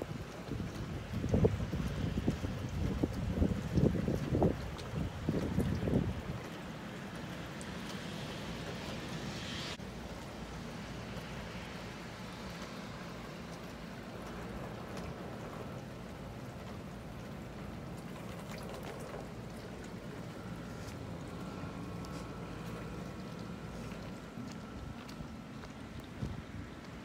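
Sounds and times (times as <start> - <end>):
rain on wet pavement: 0.0 - 27.0.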